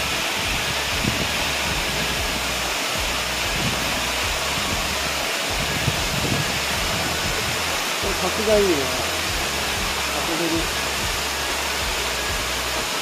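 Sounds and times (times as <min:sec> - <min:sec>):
low rumble: 0:00.0 - 0:12.8
waterfall rushing: 0:00.0 - 0:13.0.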